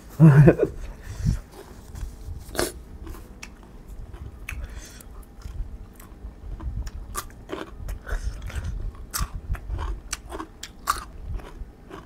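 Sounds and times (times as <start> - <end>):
person chewing crunchy vegetables: 1.2 - 12.0.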